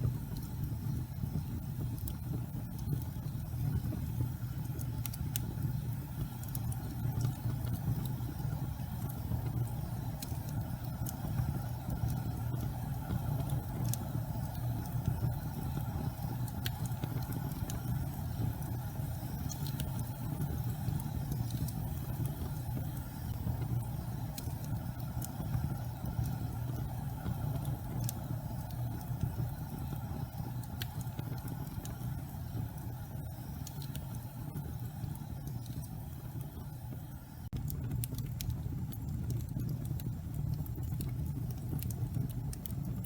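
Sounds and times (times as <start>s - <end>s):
fire crackles: 0.0s - 43.0s
fire rumbling: 0.0s - 43.0s.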